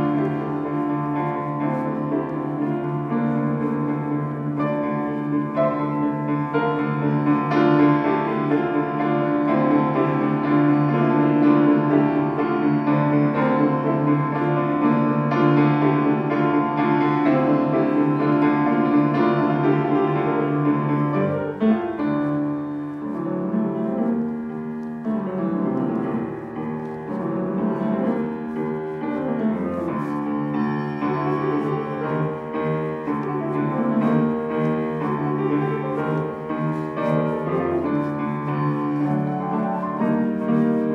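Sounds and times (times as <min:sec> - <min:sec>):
grand piano playing: 0:00.0 - 0:40.9.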